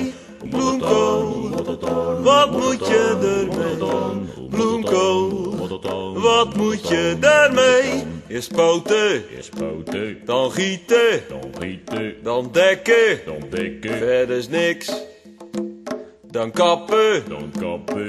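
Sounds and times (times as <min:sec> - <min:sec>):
song with sung vocals: 0:00.0 - 0:18.0.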